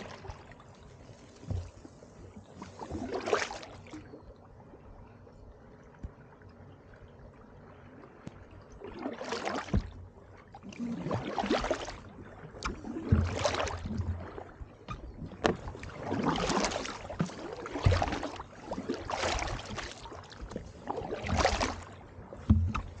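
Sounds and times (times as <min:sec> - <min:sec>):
paddle splashing in water: 0:00.0 - 0:04.4, 0:08.0 - 0:23.0.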